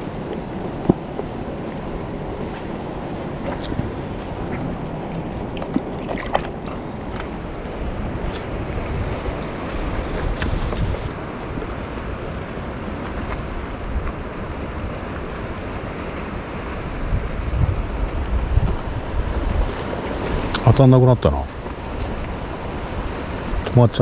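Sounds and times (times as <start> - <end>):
small waves against breakwater: 0.0 - 24.0
wind buffeting microphone: 0.0 - 24.0.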